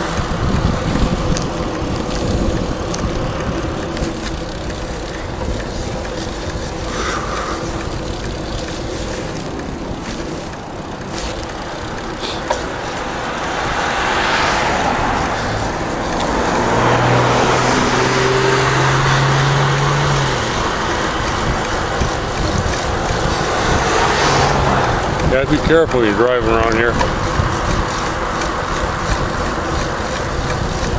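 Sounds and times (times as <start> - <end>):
motor vehicle engine hum: 0.0 - 30.9
road traffic: 0.0 - 30.9
wind noise on microphone: 0.0 - 30.9.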